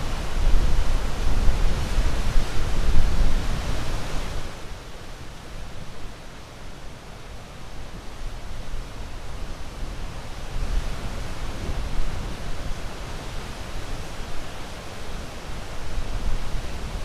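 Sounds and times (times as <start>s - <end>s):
ocean waves washing onto shore: 0.0s - 17.0s.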